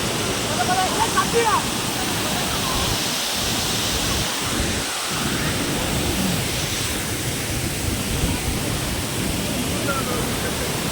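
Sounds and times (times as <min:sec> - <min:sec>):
waterfall roaring: 0:00.0 - 0:10.9.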